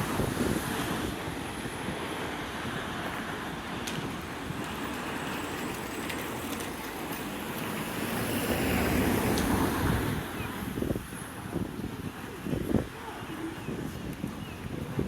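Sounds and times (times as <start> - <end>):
wind buffeting microphone: 0.0 - 7.1, 7.8 - 15.0.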